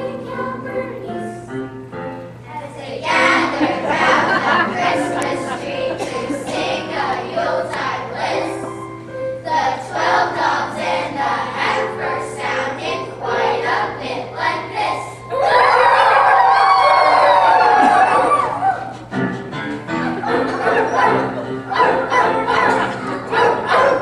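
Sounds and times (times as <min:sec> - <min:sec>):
children's choir singing: 0:00.0 - 0:01.6, 0:02.5 - 0:18.9, 0:19.8 - 0:24.0.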